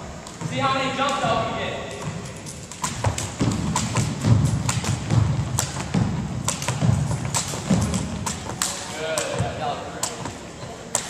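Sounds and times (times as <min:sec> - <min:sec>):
jump ropes slapping: 0:00.3 - 0:11.0.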